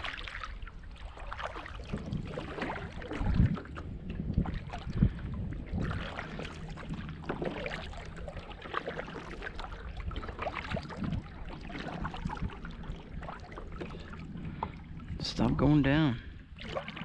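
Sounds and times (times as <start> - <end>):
water splashing and lapping: 0.0 - 17.0
wind rumble on microphone: 0.0 - 17.0.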